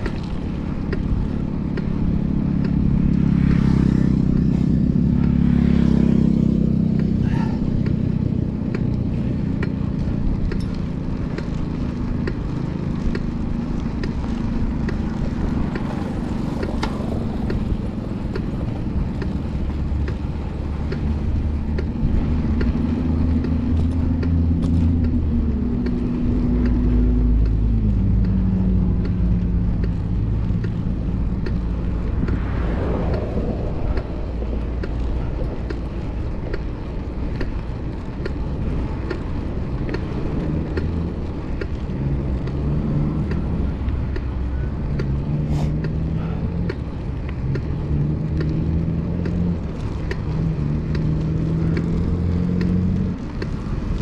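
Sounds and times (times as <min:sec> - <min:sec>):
passing traffic: 0:00.0 - 0:54.0
vehicle engine humming: 0:00.0 - 0:54.0.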